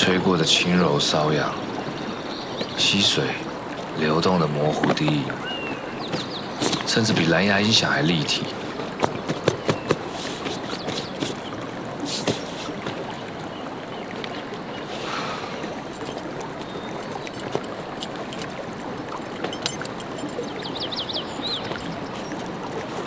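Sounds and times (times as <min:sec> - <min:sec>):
stream flowing: 0:00.0 - 0:23.0.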